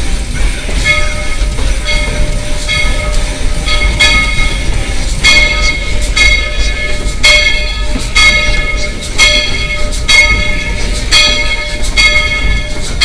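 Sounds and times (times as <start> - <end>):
locomotive bell ringing: 0.0 - 13.0
steam locomotive rumbling: 0.0 - 13.0.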